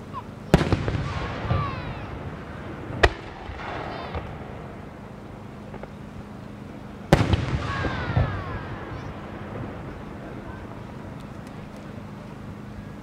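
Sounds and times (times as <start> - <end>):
fireworks bursting: 0.0 - 12.9.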